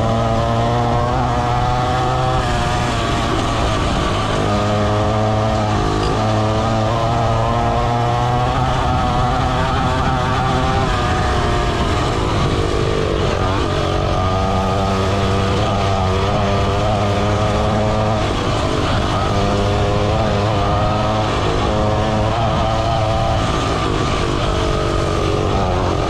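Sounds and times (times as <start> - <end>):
pit bike engine under throttle: 0.0 - 26.0.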